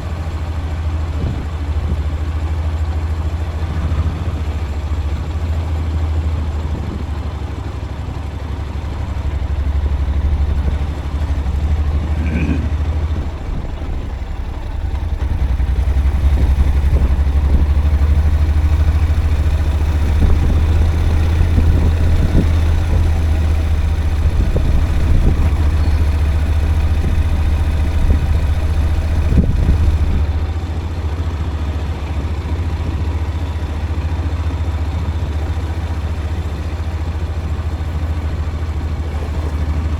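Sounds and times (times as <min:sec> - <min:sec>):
vehicle rumbling on rough road: 0:00.0 - 0:39.9.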